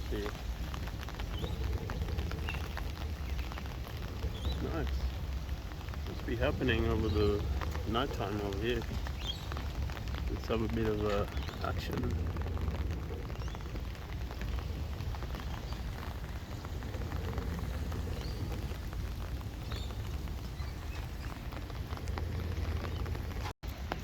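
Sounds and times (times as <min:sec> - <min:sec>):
low rumble: 0:00.0 - 0:24.0
rain pattering: 0:00.0 - 0:24.0.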